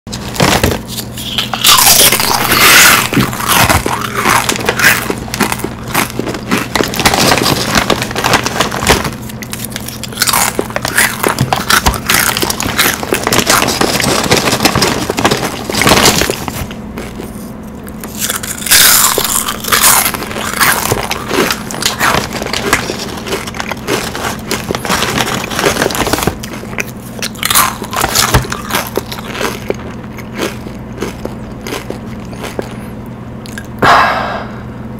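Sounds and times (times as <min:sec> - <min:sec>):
crunching and chewing: 0:00.1 - 0:33.8
steady low hum: 0:00.1 - 0:34.9.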